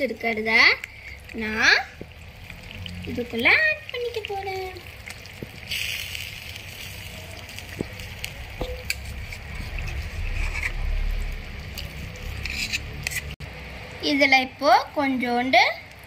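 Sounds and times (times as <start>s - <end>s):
gravy sizzling and bubbling: 0.0s - 16.0s.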